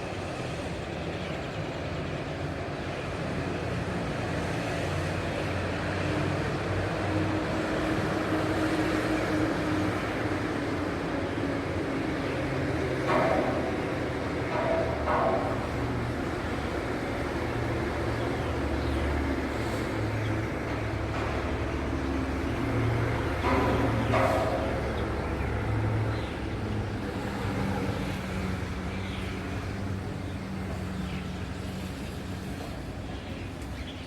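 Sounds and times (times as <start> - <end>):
motor traffic rumble: 0.0 - 34.0.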